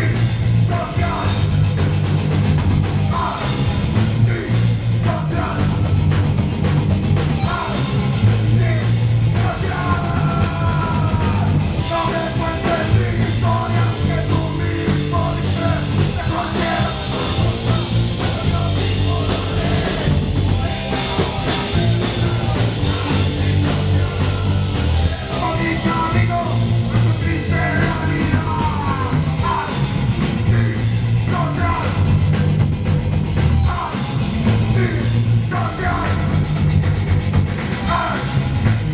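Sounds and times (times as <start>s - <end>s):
singer shouting vocals: 0.0s - 1.6s, 3.1s - 5.8s, 7.4s - 32.1s, 33.6s - 36.4s, 37.8s - 38.9s
bass guitar: 0.0s - 38.9s
drum kit: 0.0s - 38.9s
electric guitar: 0.0s - 38.9s.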